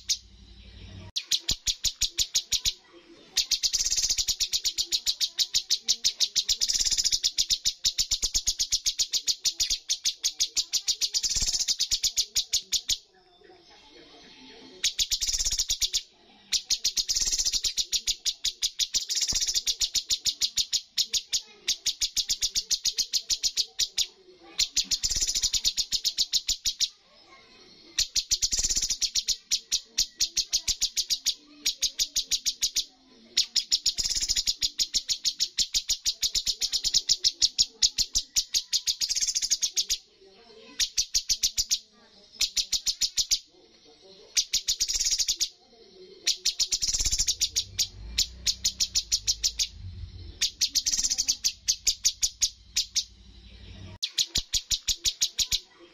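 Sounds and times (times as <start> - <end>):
bird singing sharp notes: 0.0 - 13.0, 14.7 - 27.0, 28.0 - 40.0, 44.3 - 45.5, 46.2 - 55.7.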